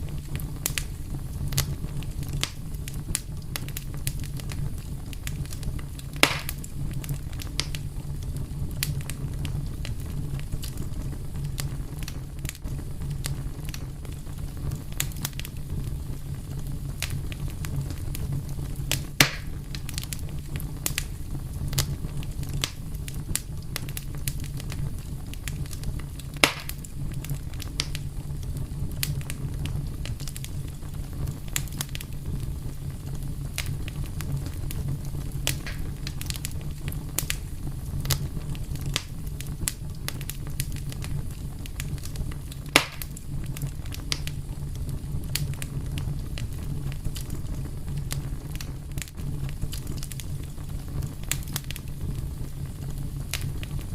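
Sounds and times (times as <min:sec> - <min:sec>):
fire crackling: 0:00.0 - 0:53.9
fire popping: 0:00.0 - 0:53.9.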